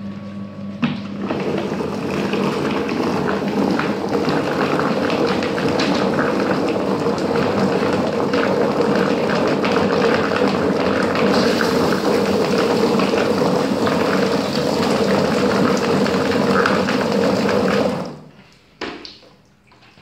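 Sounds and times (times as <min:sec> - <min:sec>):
poultry plucker motor humming: 0:00.0 - 0:18.3.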